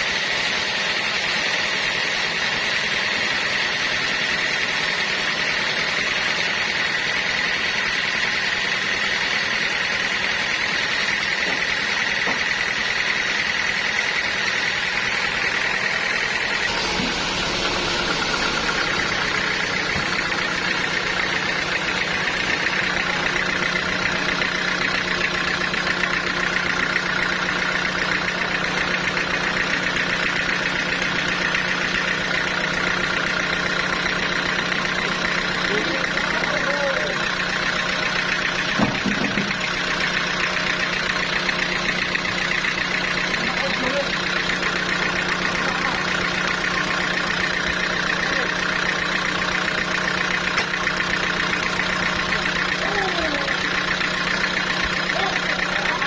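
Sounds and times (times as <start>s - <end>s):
sawmill saw whining through log: 0.0s - 56.0s.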